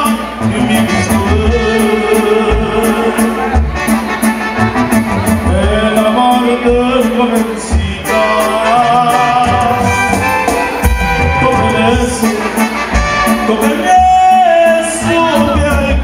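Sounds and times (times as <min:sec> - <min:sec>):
drums playing steady beat: 0:00.0 - 0:16.0.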